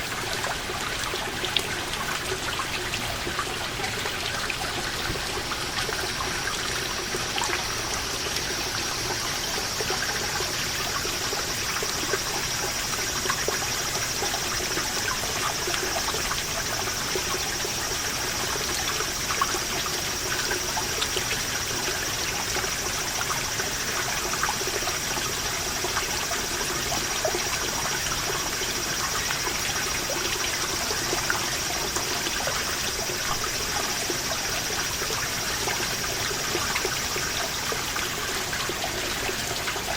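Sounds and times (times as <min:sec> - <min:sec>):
water dripping and trickling: 0:00.0 - 0:39.9.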